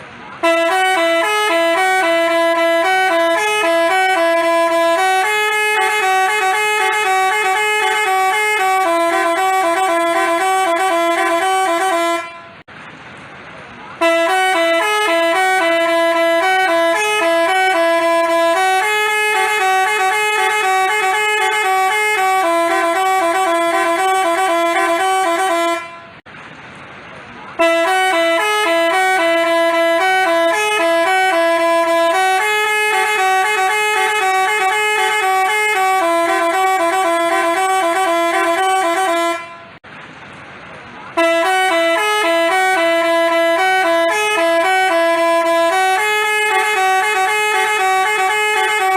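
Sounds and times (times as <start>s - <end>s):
multi-tone horn playing a jingle: 0.4s - 12.6s, 14.0s - 26.2s, 27.6s - 39.8s, 41.2s - 48.9s.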